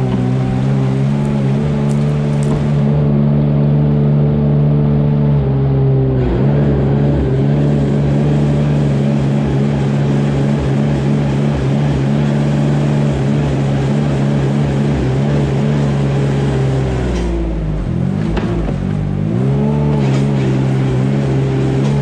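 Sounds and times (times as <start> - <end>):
small engine running steadily: 0.0 - 22.0.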